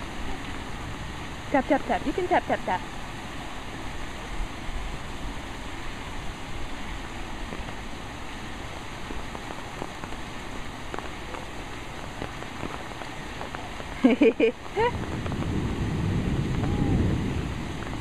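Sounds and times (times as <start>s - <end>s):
heavy rain hissing: 0.0s - 18.0s
raindrops ticking on surfaces: 0.0s - 18.0s.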